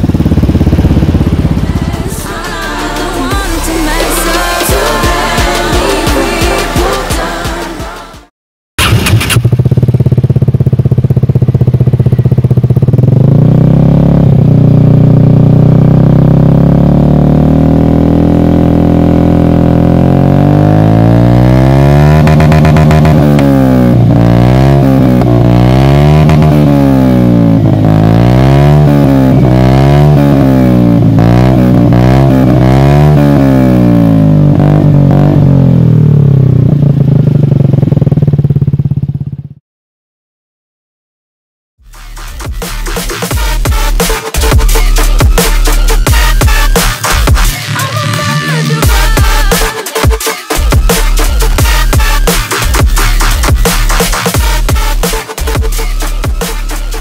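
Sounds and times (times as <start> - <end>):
scooter engine idling and revving: 0.0 - 39.6, 41.8 - 57.0.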